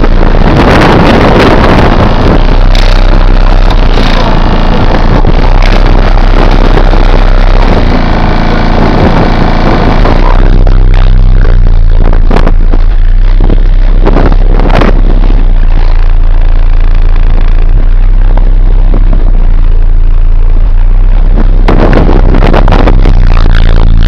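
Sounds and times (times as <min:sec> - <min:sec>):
crackling: 0:00.0 - 0:24.0
distorted sub-bass drone: 0:00.0 - 0:24.0.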